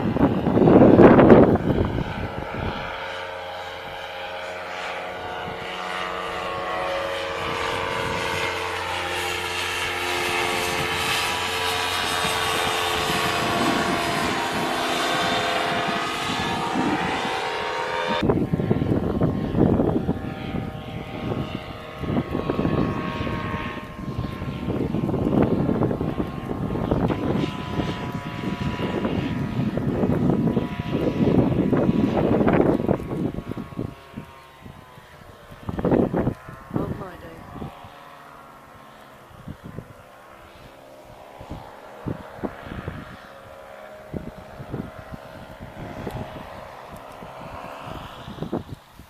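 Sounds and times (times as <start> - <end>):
paramotor engine and propeller: 0.0 - 49.0
wind buffeting microphone: 0.0 - 49.0.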